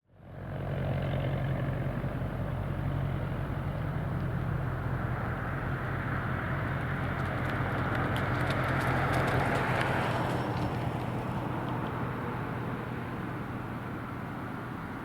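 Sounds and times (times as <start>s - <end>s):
propeller plane engine humming: 0.1s - 15.0s.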